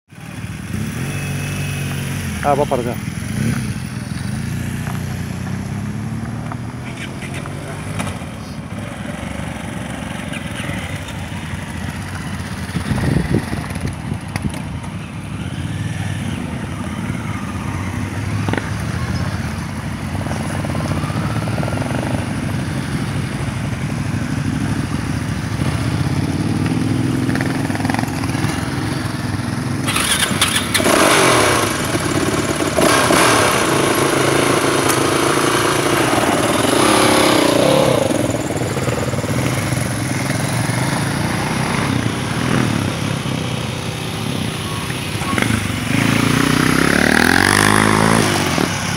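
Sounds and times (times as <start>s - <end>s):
motorcycles riding past: 0.1s - 48.9s.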